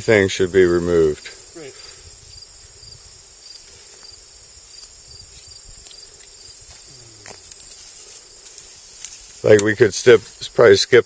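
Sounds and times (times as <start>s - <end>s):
crickets and insects chorus: 0.0s - 11.0s.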